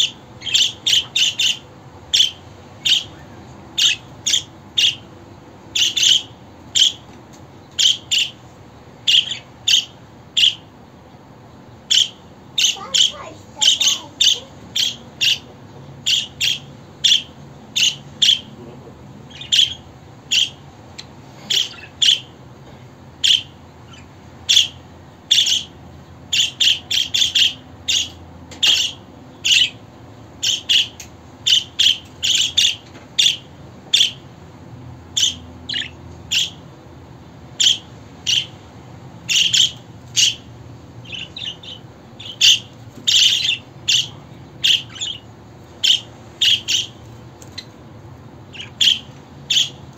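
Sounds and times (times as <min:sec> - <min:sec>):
budgerigar chirping: 0:00.0 - 0:05.1, 0:05.7 - 0:07.0, 0:07.7 - 0:08.4, 0:09.0 - 0:10.7, 0:11.8 - 0:18.5, 0:19.3 - 0:20.6, 0:21.5 - 0:22.3, 0:23.2 - 0:29.8, 0:30.4 - 0:34.2, 0:35.1 - 0:36.6, 0:37.6 - 0:38.6, 0:39.3 - 0:47.7, 0:48.5 - 0:49.8.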